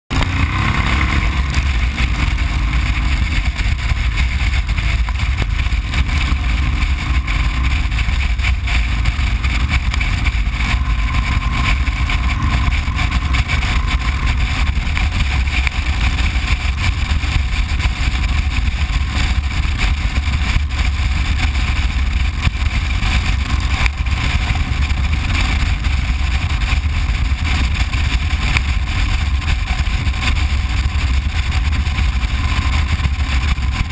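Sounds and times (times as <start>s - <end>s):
motorcycle engine rumble: 0.1s - 33.9s
wind rush: 0.1s - 33.9s.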